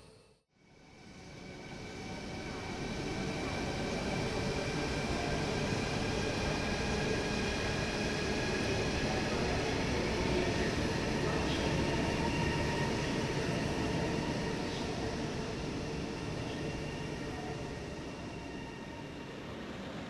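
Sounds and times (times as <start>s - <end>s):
train wheels rushing on rail: 1.3s - 20.0s.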